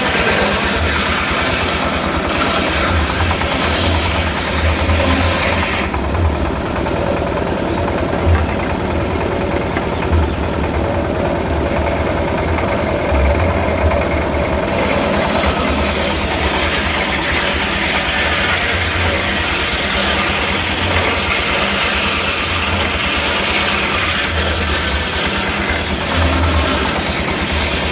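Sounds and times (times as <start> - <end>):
sawmill engine rumble: 0.0 - 27.9.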